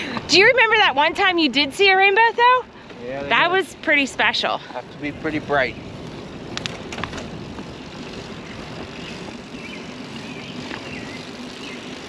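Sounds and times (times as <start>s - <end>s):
bicycle tyre noise: 0.0s - 12.0s.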